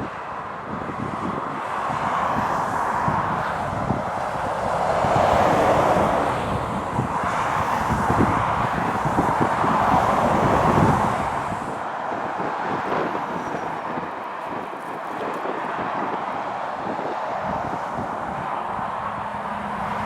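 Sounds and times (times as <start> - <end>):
wind buffeting microphone: 0.0 - 20.0
lorries passing on wet road: 0.1 - 20.0.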